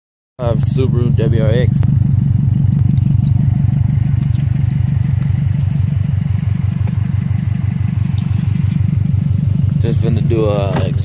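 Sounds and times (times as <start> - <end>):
car exhaust idling: 0.4 - 11.0.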